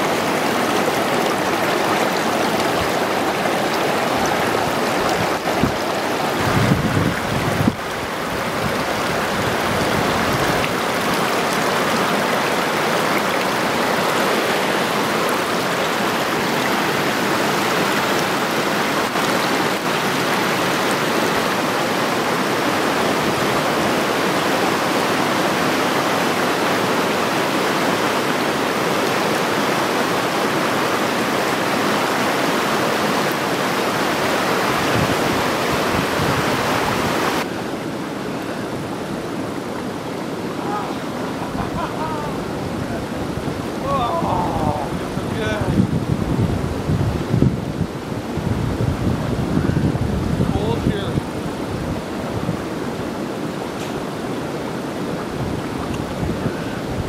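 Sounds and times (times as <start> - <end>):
river water rushing over rapids: 0.0 - 57.0.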